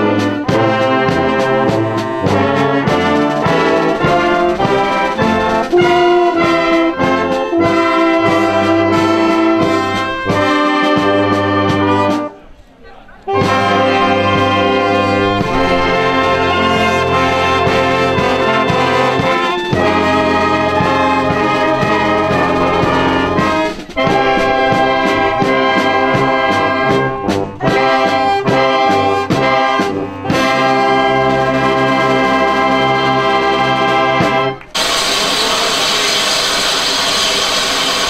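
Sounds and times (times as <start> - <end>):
wind band playing held chords: 0.0 - 12.5, 13.2 - 38.0.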